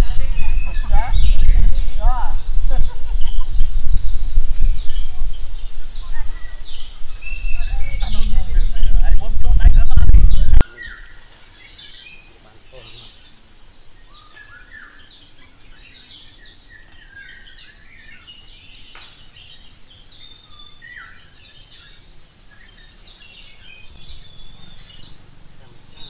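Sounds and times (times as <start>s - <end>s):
high pulsing insect trill: 0.0s - 26.0s.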